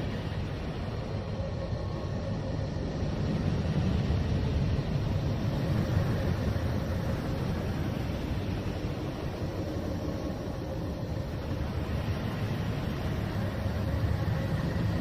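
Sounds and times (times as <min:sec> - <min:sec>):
hiss: 0:00.0 - 0:15.0.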